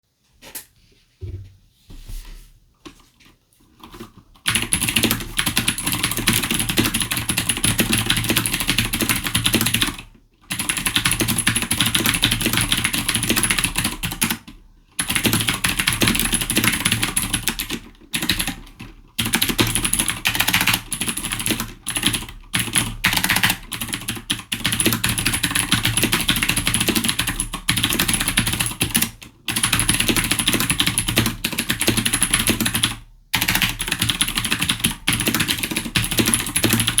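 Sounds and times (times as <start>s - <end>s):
mechanical keyboard typing: 3.8s - 37.0s.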